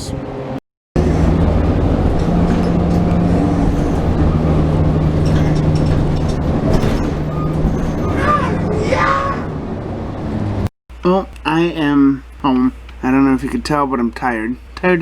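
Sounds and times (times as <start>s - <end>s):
bus engine hum: 0.0s - 14.8s
continuous rumbling: 0.0s - 15.0s.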